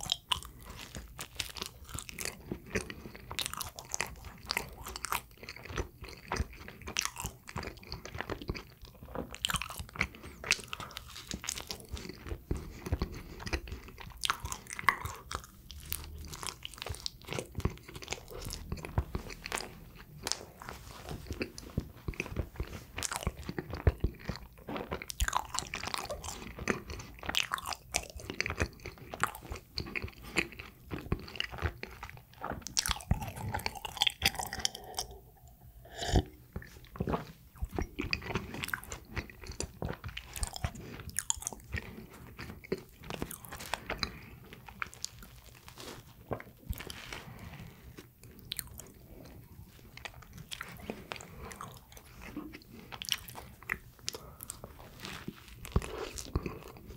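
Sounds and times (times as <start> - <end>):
chewing bread: 0.0 - 56.9.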